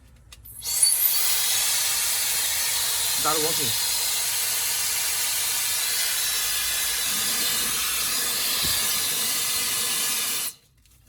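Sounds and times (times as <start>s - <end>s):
hair dryer rushing air: 1.3s - 10.5s.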